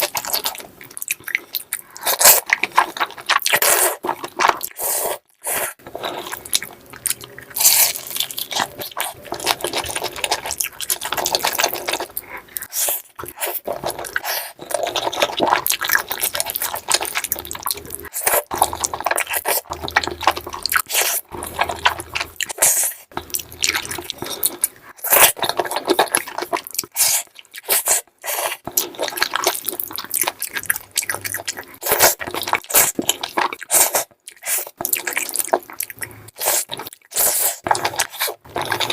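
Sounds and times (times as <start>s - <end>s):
wet chewing and mouth smacking: 0.0s - 38.9s.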